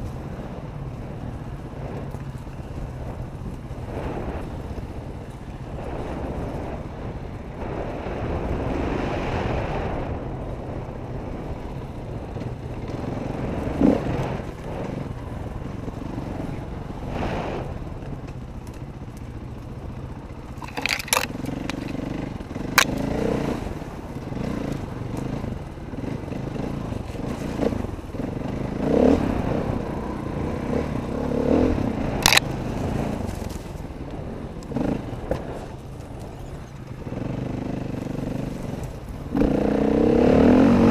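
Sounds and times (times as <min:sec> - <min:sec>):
bike rattling over ground: 0:00.0 - 0:08.5, 0:10.2 - 0:39.6
dirt bike engine running: 0:00.0 - 0:40.9.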